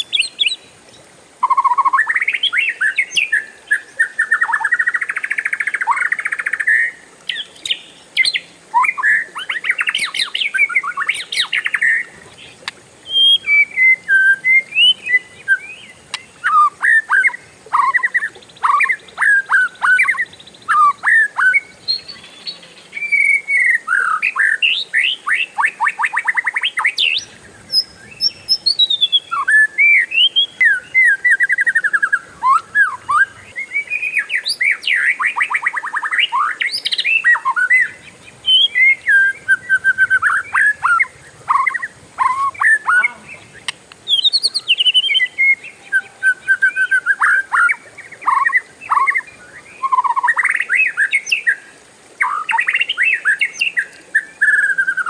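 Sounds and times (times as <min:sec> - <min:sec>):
songbird singing trills and whistles: 0:00.0 - 0:55.0.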